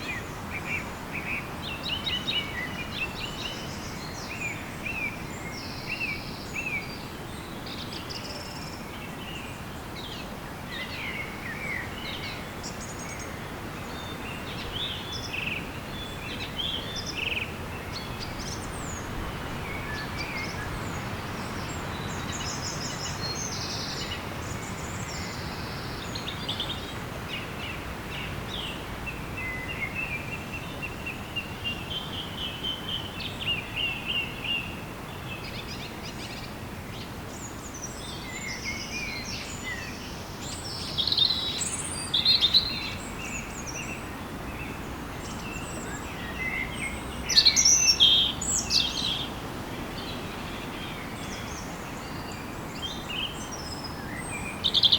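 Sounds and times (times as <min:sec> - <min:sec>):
small birds chirping: 0:00.0 - 0:54.9
steady background hiss: 0:00.0 - 0:54.9.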